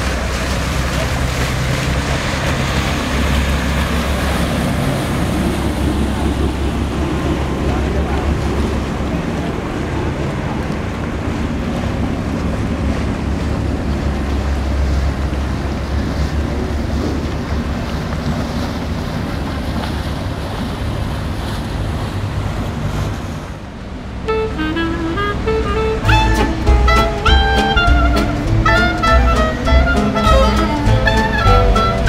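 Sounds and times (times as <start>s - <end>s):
boat engine humming: 0.0s - 32.0s
choppy water: 0.0s - 32.0s.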